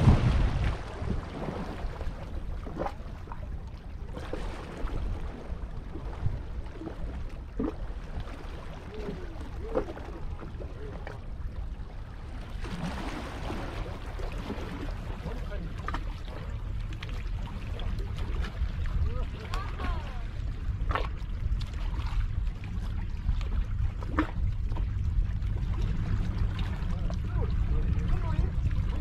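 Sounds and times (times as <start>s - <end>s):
water lapping against rocks: 0.0s - 29.0s
wind rumble on microphone: 0.0s - 29.0s.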